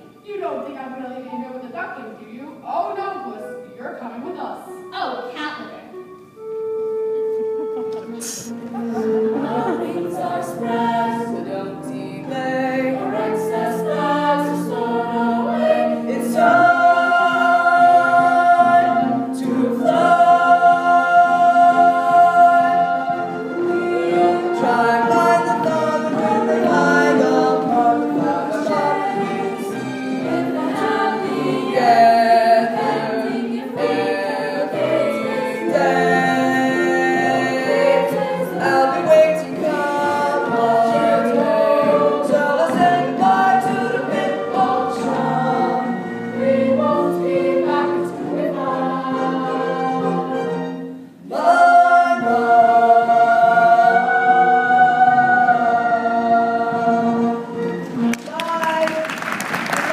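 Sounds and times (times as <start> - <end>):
chorus singing musical number: 2.6 - 58.4.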